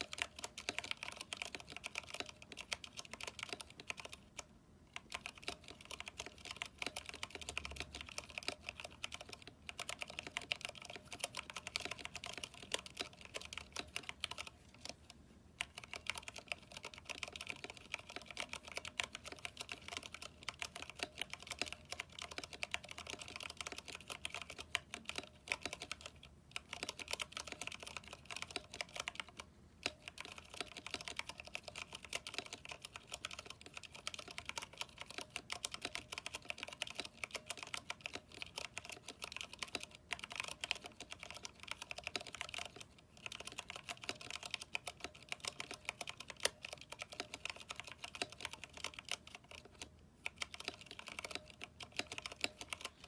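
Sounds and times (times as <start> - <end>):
fast typing on mechanical keyboard: 0.0 - 15.0, 15.6 - 53.0.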